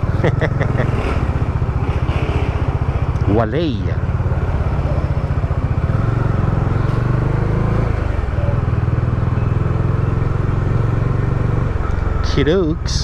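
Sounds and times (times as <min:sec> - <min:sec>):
motorcycle engine pulsing: 0:00.0 - 0:13.0.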